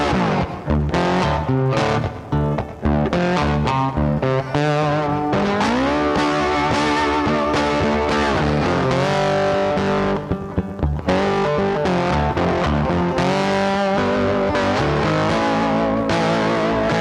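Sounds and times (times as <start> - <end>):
guitar background music: 0.0 - 17.0.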